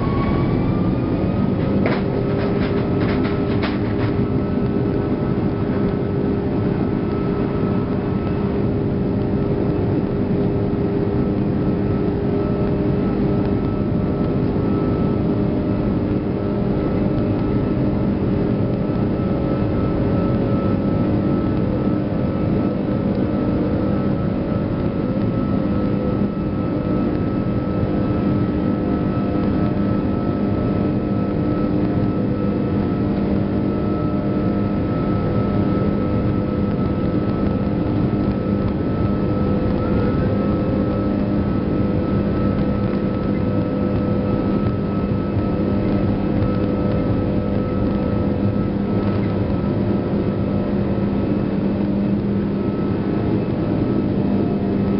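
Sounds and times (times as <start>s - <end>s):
jet engines humming in cabin: 0.0s - 54.9s.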